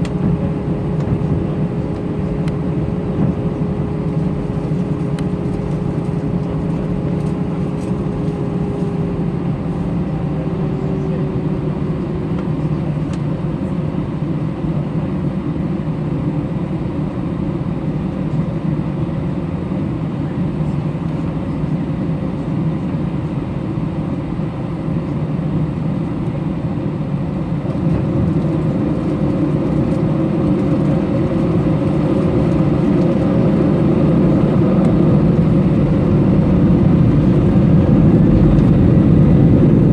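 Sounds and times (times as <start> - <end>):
jet engines rumbling with whine: 0.0 - 39.9.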